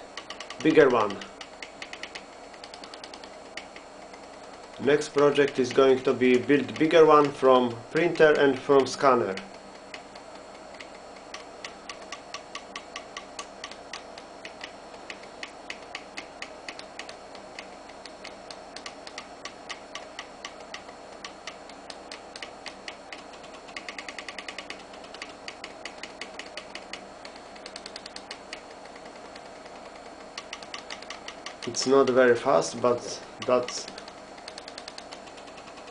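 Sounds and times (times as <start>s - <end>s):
stepper motors clicking: 0.0s - 35.9s.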